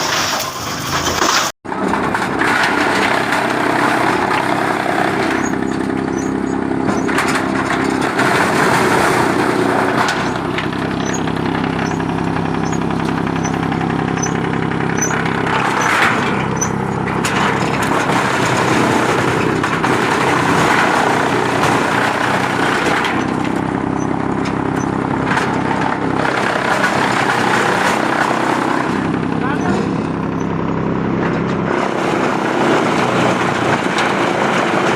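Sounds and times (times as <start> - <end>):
wood chipper running: 0.0 - 34.9.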